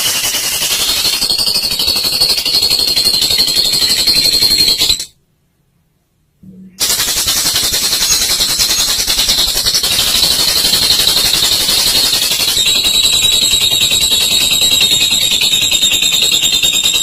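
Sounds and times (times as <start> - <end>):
lovebird rattling chatter: 0.0 - 5.2, 6.8 - 17.0.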